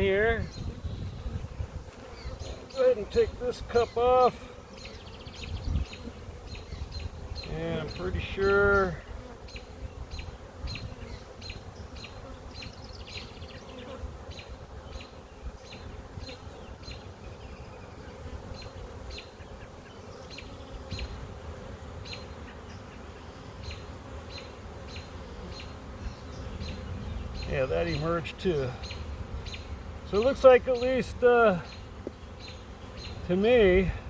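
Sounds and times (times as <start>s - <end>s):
honey bees buzzing: 0.0s - 34.0s.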